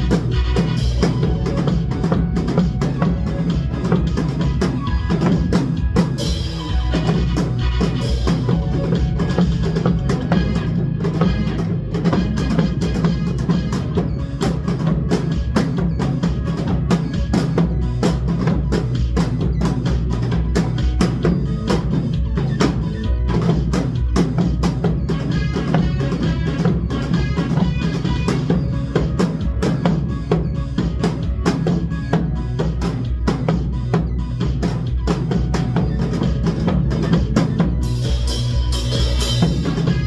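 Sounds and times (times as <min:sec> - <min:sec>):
trot song playing: 0:00.0 - 0:40.0.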